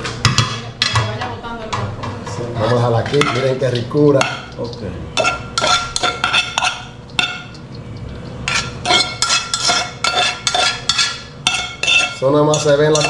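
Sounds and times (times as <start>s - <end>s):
utensil scraping steel bowl: 2.3s - 13.0s.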